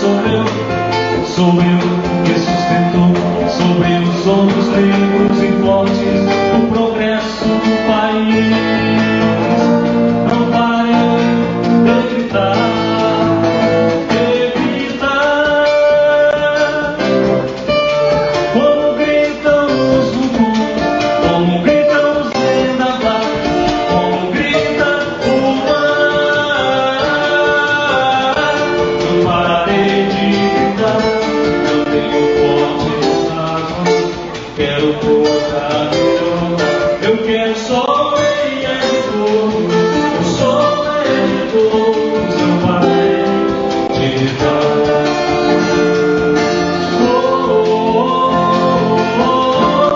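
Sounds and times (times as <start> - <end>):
guitar accompaniment: 0.0 - 49.9
person singing: 0.0 - 49.9.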